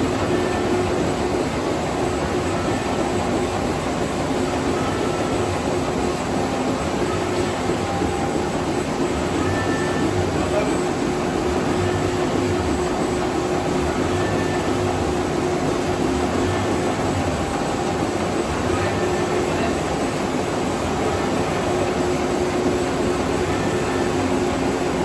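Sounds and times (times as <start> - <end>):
printing press running: 0.0 - 25.0.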